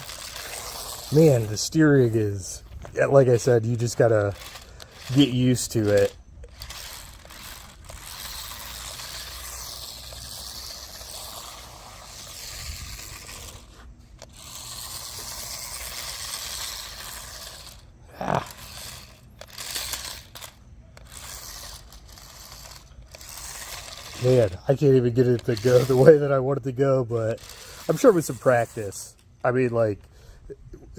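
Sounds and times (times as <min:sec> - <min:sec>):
toy car motors whirring: 0:00.0 - 0:30.9.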